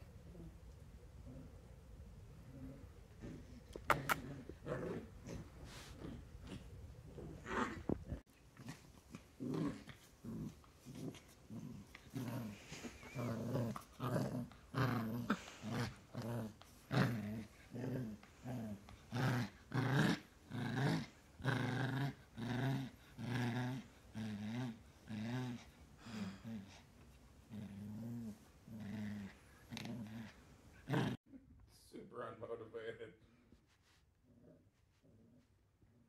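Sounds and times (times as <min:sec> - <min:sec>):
puppy growling: 0:01.2 - 0:31.2.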